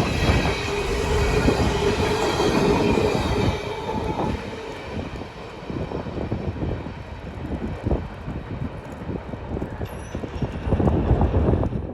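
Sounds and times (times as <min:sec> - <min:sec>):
freight train rumbling past: 0:00.0 - 0:11.7
wind buffeting microphone: 0:00.0 - 0:11.9.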